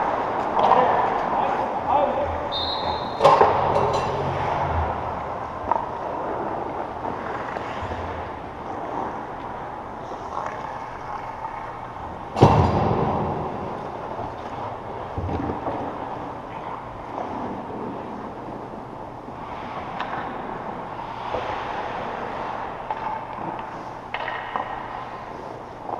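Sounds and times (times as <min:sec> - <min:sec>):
arena hum: 0:00.0 - 0:25.9.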